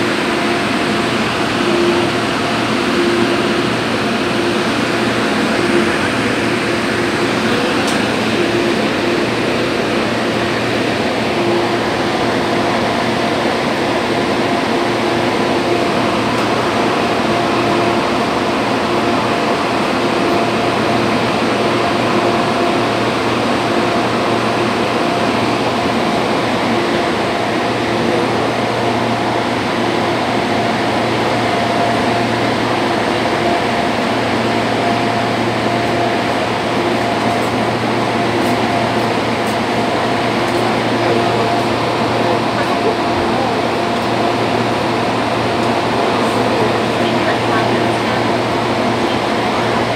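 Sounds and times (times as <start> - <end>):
air conditioning: 0.0 - 49.9
train running rumble: 0.0 - 49.9.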